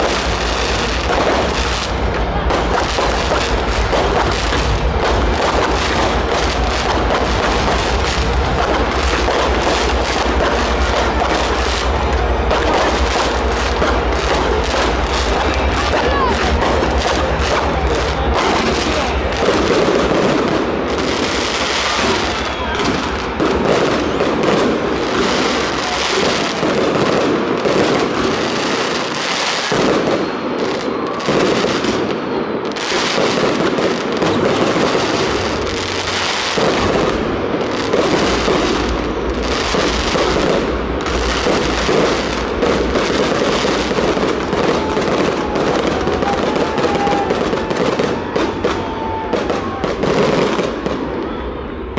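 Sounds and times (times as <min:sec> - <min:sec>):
fireworks banging and crackling: 0:00.0 - 0:51.9.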